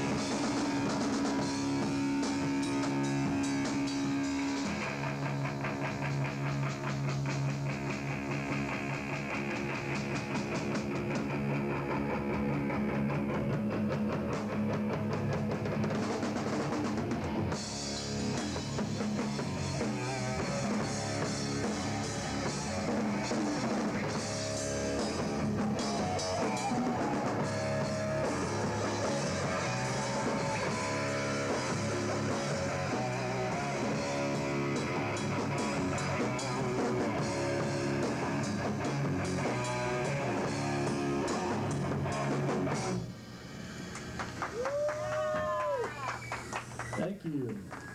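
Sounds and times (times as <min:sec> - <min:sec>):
drum kit: 0:00.0 - 0:47.8
electric guitar: 0:00.0 - 0:47.9.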